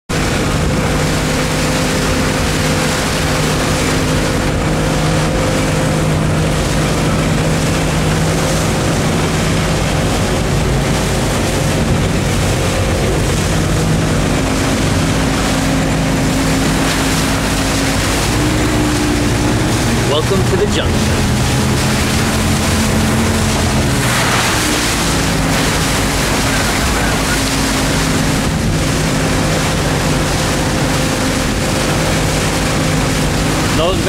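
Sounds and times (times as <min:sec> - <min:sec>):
boat engine running: 0:00.1 - 0:34.0
water rushing past hull: 0:00.1 - 0:34.0
wind on microphone: 0:00.1 - 0:34.0.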